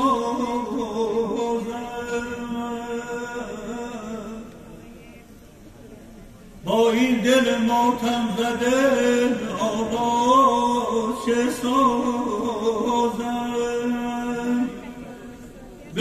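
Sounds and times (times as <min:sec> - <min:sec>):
man singing unaccompanied: 0:00.0 - 0:04.7, 0:06.6 - 0:15.1.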